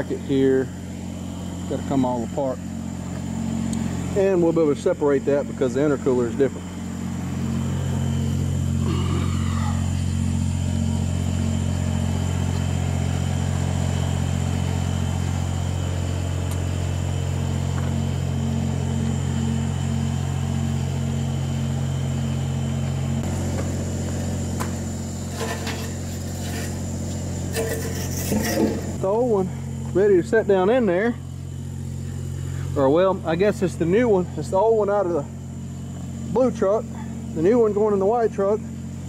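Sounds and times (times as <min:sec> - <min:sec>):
engine idling: 0:00.0 - 0:39.0
faint high whine: 0:00.0 - 0:39.0.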